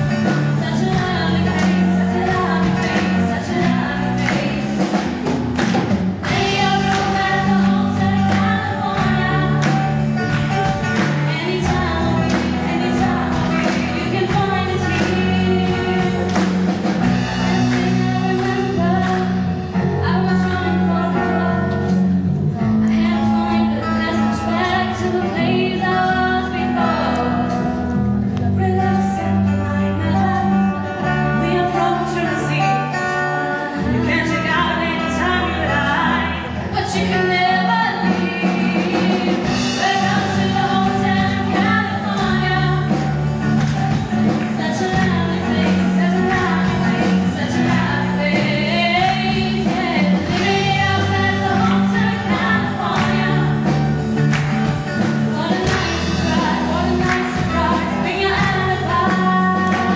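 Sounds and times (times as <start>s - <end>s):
women singing: 0.0s - 5.3s, 6.2s - 22.0s, 22.7s - 43.3s, 43.9s - 54.0s, 55.2s - 59.9s
bass notes: 0.0s - 59.9s
live band playing: 0.0s - 59.9s.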